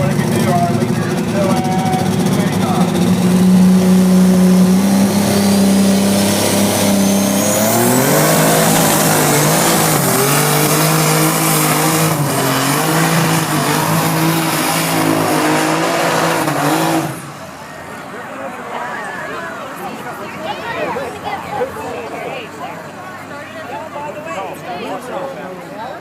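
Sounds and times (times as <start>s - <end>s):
tractor engine at full throttle: 0.0s - 25.2s.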